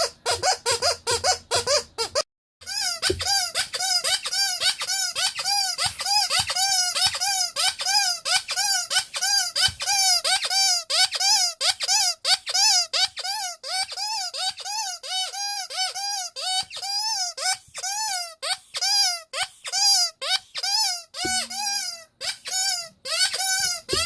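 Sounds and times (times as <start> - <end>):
rubber squeaky toy squeaking: 0.0 - 24.0.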